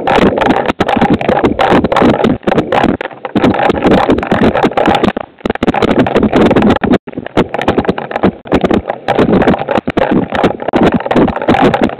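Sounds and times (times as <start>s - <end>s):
heavy rain hitting microphone: 0.0s - 11.9s.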